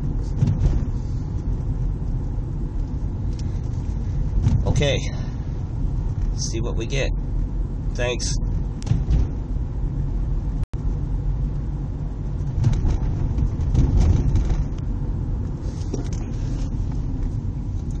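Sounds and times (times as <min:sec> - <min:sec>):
car engine low rumble: 0:00.0 - 0:18.0
road noise inside car: 0:00.0 - 0:18.0.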